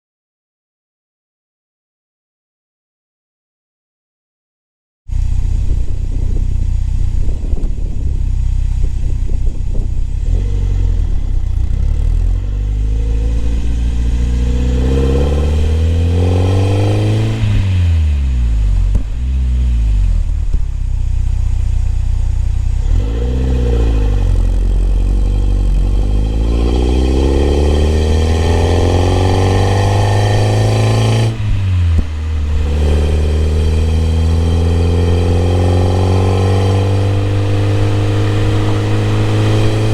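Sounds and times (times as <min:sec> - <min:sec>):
car engine accelerating: 0:05.1 - 0:39.9.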